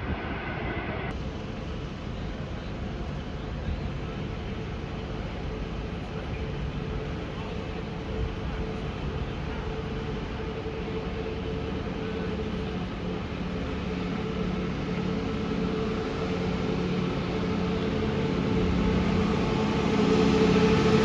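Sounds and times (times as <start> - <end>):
train engine drone: 0.0 - 21.0.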